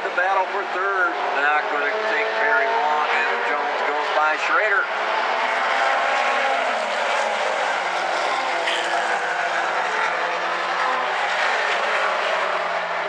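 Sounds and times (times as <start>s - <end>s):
stock cars racing: 0.0s - 13.0s.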